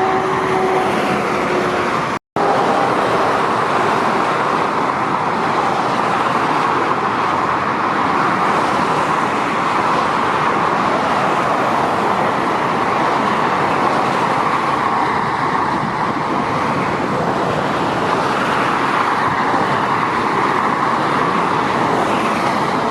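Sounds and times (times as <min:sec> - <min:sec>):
motorway traffic noise: 0:00.0 - 0:22.9.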